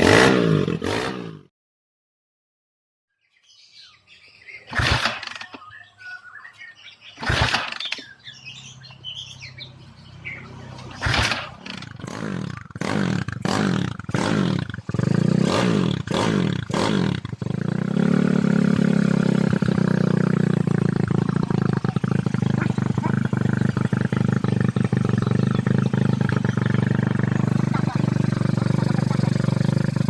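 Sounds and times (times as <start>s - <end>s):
motorcycle engine revving: 0.0s - 1.5s, 4.7s - 5.7s, 7.2s - 30.0s.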